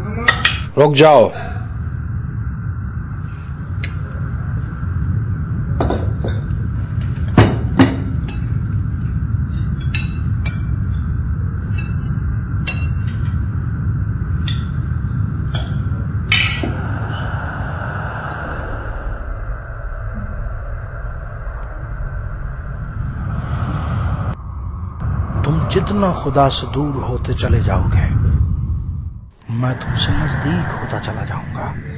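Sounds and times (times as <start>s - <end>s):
low background hum: 0.0s - 31.9s.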